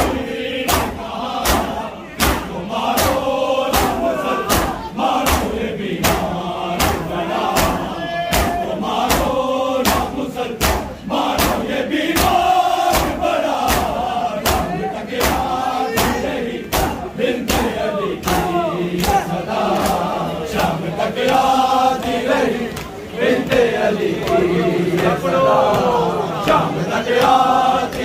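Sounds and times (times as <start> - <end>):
crowd slapping chests in unison: 0.0 - 28.0
men's voices chanting: 0.0 - 28.0.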